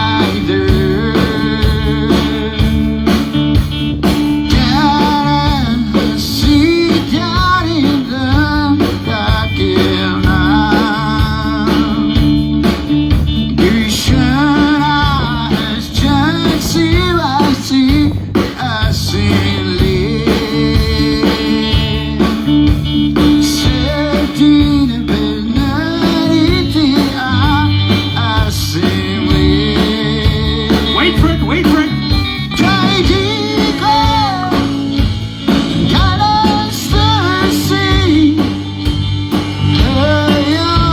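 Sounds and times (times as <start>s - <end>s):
person singing: 0.0s - 3.3s, 4.4s - 12.4s, 13.5s - 22.6s, 23.2s - 39.0s, 39.6s - 40.9s
bass: 0.0s - 40.9s
drum beat: 0.0s - 40.9s
guitar: 0.0s - 40.9s.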